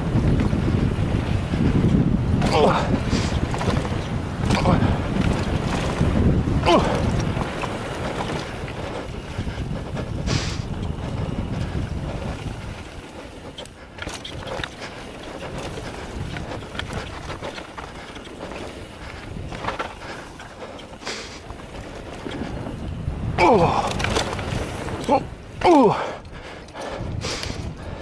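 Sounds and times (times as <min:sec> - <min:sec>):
bike tyres rolling on dirt: 0:00.0 - 0:28.0.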